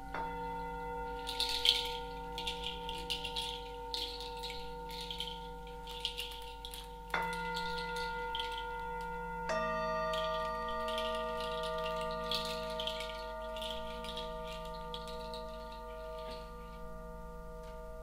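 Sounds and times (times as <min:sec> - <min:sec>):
bell-like metal tones ringing: 0:00.0 - 0:18.0.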